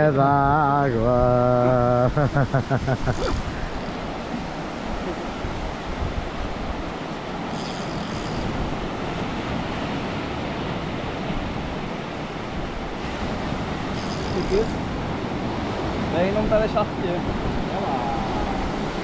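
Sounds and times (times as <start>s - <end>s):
surf washing onto beach: 0.0s - 7.6s, 8.5s - 19.0s
wind rumbling on microphone: 0.0s - 19.0s.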